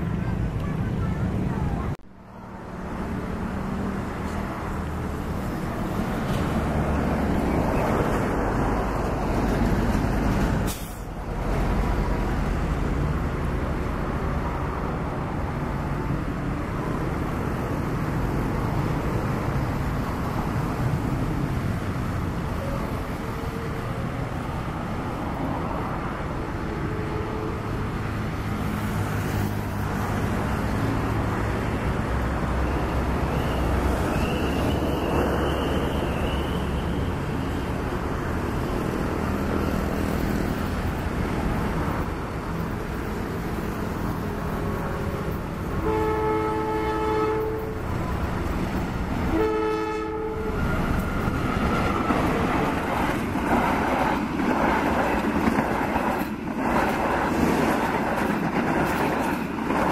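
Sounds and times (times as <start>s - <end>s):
diesel locomotive engine drone: 0.0s - 59.9s
train rushing noise: 0.0s - 59.9s.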